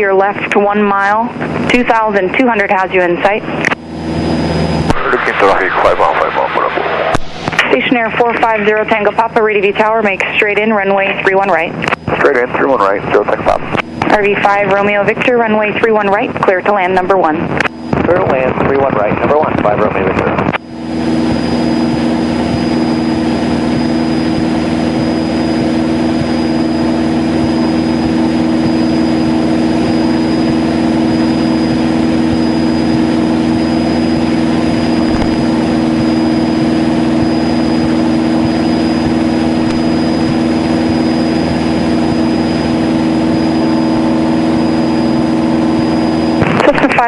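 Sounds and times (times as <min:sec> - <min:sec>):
propeller plane engine droning: 0:00.0 - 0:47.0.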